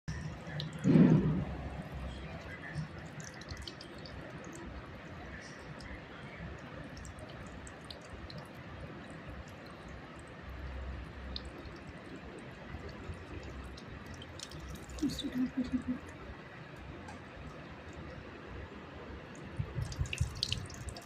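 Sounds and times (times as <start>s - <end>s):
water dripping and trickling: 0.0s - 21.0s.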